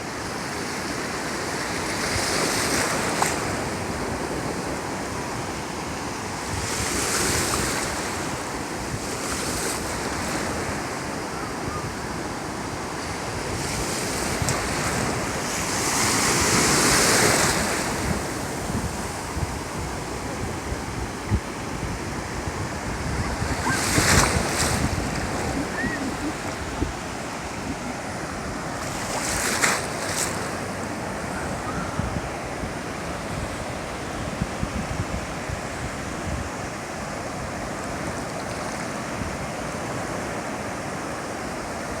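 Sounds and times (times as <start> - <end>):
ocean surf washing on beach: 0.0 - 42.0
wind: 0.0 - 42.0.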